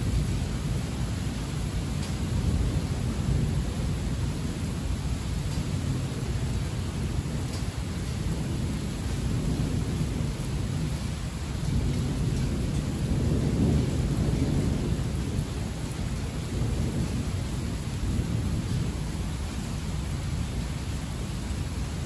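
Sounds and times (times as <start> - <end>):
heavy rain: 0.0 - 22.0
thunder rumbling: 0.0 - 22.0.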